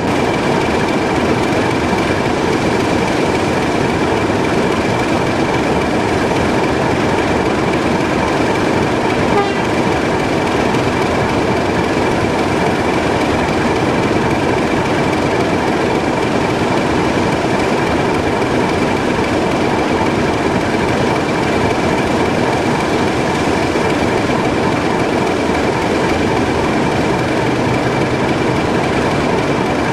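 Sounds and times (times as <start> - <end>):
diesel locomotive running: 0.0 - 29.9.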